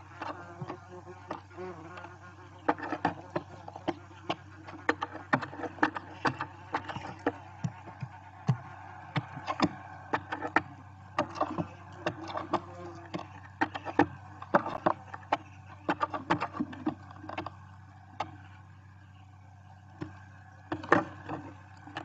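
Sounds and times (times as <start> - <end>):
owls stepping on nest debris: 0.0 - 18.6
low electrical hum: 0.0 - 22.0.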